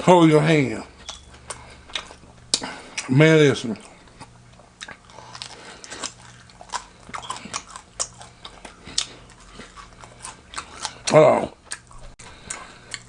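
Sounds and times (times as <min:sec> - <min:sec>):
person chewing food: 0:01.0 - 0:03.1, 0:03.7 - 0:13.0.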